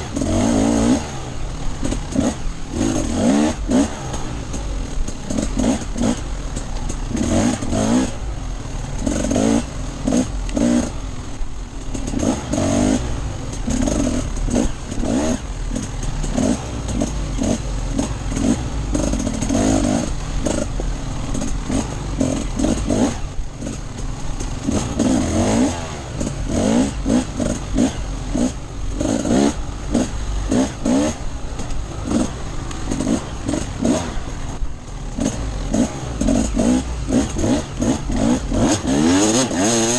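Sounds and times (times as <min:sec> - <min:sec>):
bike rattling over rough ground: 0:00.0 - 0:39.9
dirt bike engine revving: 0:00.0 - 0:39.9.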